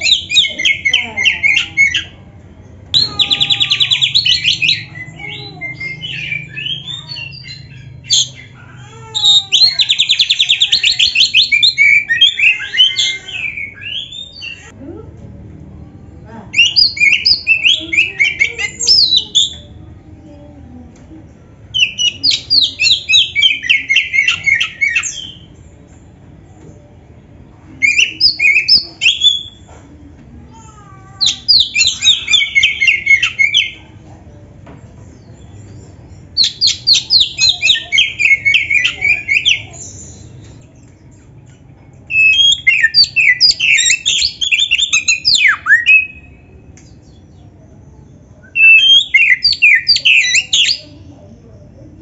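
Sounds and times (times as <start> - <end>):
bird singing repeated notes: 0.0 - 2.2, 2.9 - 14.8, 16.5 - 19.8, 21.5 - 26.0, 27.8 - 29.7, 31.2 - 33.9, 35.1 - 41.4, 42.1 - 51.8.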